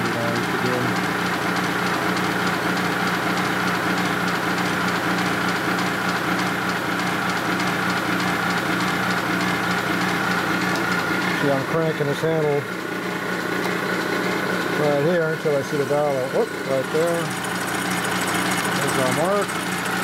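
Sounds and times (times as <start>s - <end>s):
milling machine whining: 0.0s - 20.0s.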